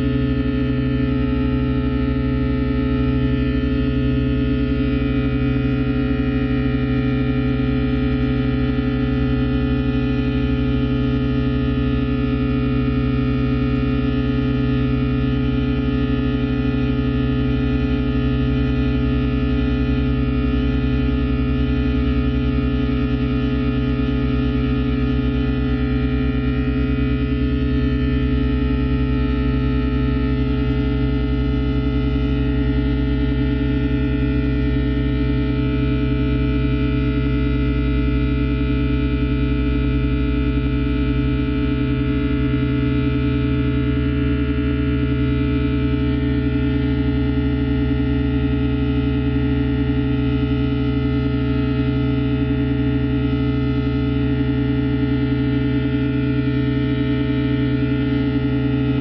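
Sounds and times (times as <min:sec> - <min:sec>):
electric guitar drone music: 0:00.0 - 0:59.0.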